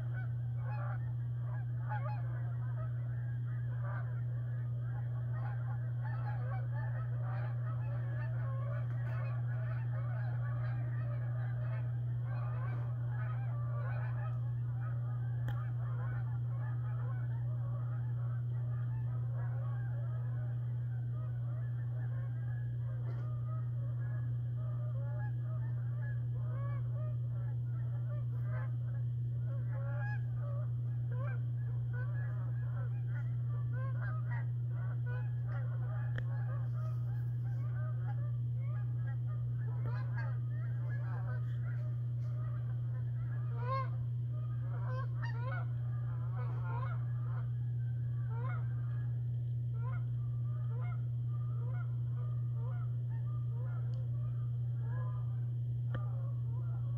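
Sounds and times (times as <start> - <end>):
geese honking: 0.0 - 56.9
steady low hum: 0.0 - 56.9.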